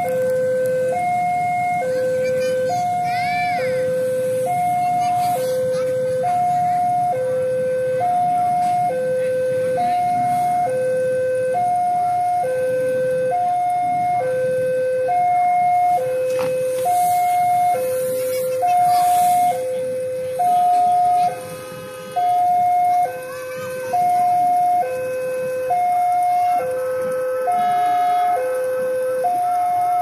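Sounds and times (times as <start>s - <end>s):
level-crossing two-tone alarm: 0.0s - 30.0s.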